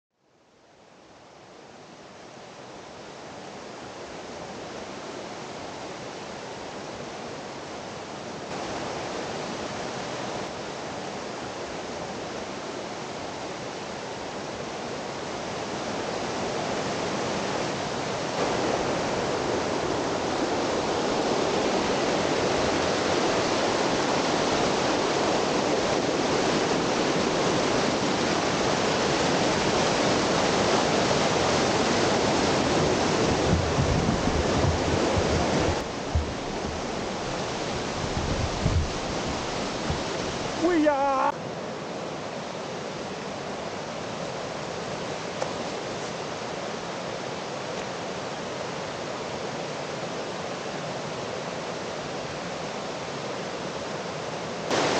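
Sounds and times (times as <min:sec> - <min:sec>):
creek rushing over rocks: 0:02.4 - 0:54.9.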